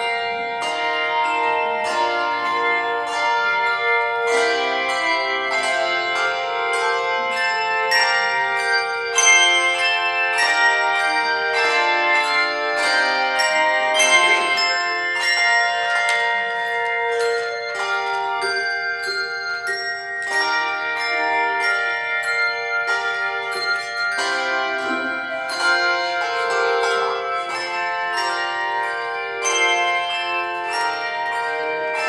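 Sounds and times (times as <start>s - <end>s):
handbell choir playing a hymn: 0.0s - 32.0s.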